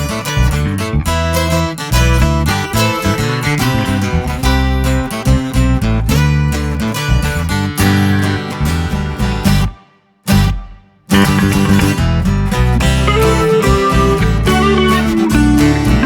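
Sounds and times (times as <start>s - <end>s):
strummed acoustic guitar music: 0.0s - 16.0s.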